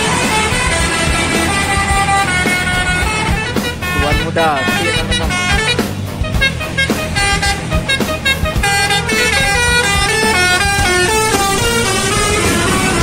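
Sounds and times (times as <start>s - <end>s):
bus engine rumble: 0.0s - 13.0s
musical bus horn melody: 0.0s - 13.0s.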